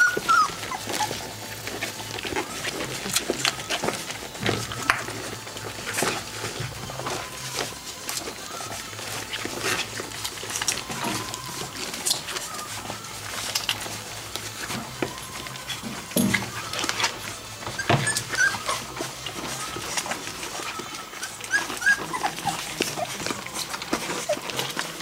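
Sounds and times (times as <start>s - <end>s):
paws scuffling: 0.0s - 25.0s
puppies squeaking and whimpering: 0.0s - 25.0s.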